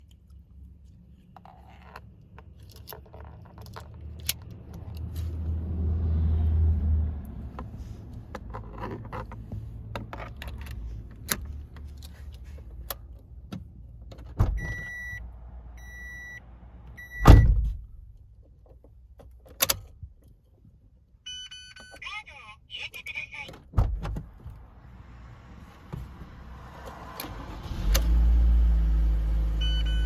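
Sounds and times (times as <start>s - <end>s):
car engine starting and idling: 0.1s - 21.5s, 23.3s - 30.0s.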